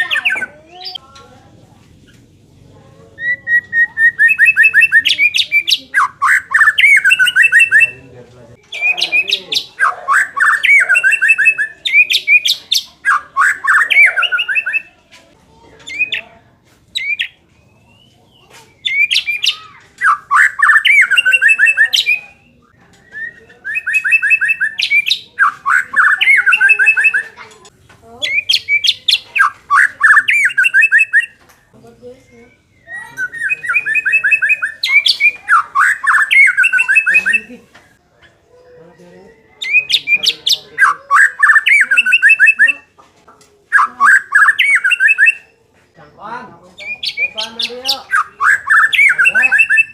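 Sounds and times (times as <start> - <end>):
songbird chattering song: 0.0 - 1.2, 3.0 - 15.1, 15.7 - 49.9.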